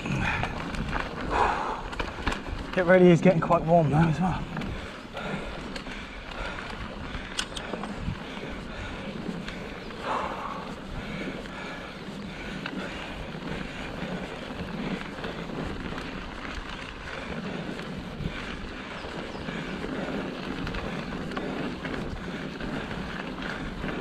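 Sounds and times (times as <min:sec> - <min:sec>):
wind noise on microphone: 0:00.0 - 0:02.8, 0:06.4 - 0:24.0
bike rattling: 0:00.0 - 0:24.0
tyres rumbling on gravel: 0:00.0 - 0:24.0.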